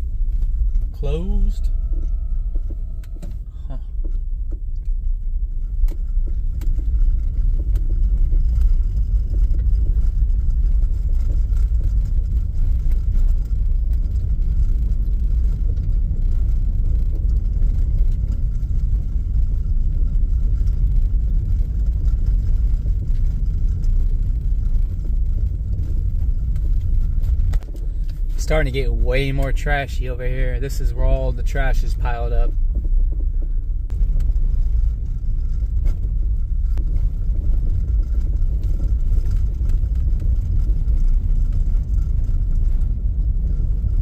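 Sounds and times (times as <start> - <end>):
car interior engine and road noise: 0.0 - 44.0
faint clicks and rattles: 0.0 - 44.0.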